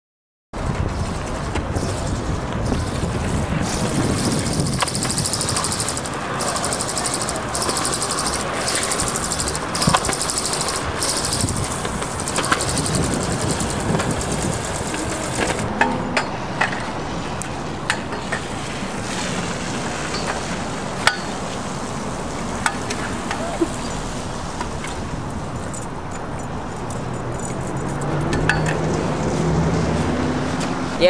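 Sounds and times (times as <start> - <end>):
scooter wheels rolling on pavement: 0.6 - 30.7.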